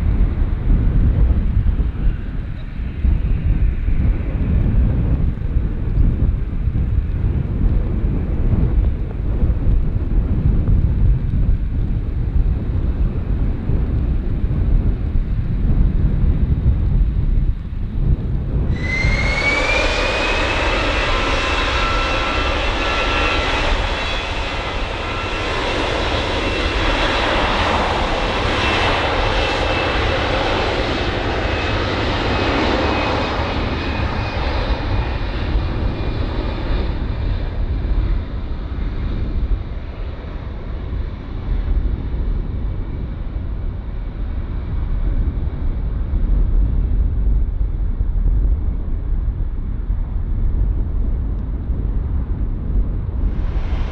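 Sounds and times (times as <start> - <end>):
jet engine roar: 0.0 - 53.9
jet engine whine: 0.0 - 53.9.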